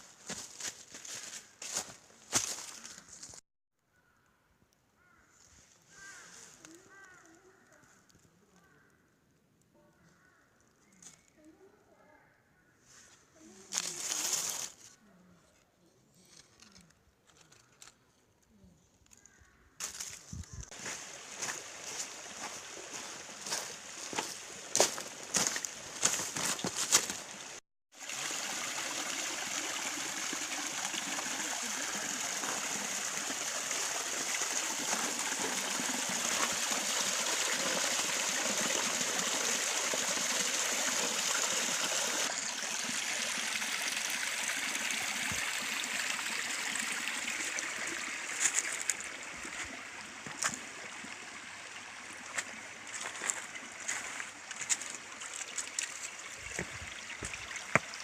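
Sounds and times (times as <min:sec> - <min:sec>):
forest stream running: 0:00.0 - 0:03.4, 0:05.0 - 0:08.2, 0:12.8 - 0:15.1, 0:19.8 - 0:58.0.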